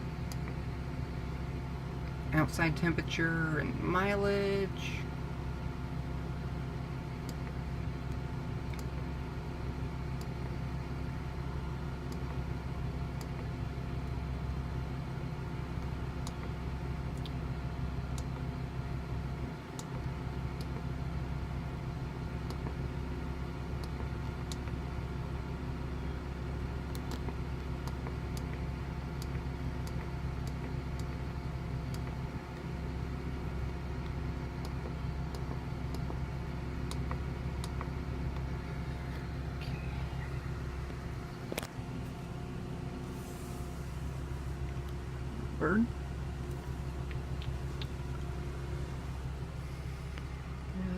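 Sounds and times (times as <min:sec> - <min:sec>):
bus engine idling: 0:00.0 - 0:50.9.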